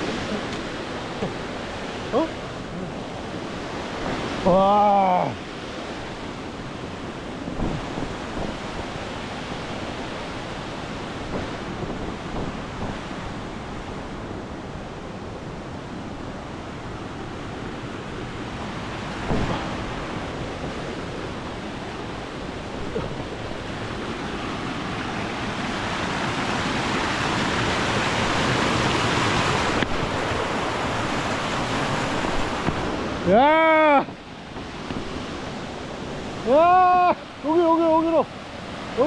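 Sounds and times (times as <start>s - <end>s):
mountain stream and waterfall rushing: 0.0s - 39.0s.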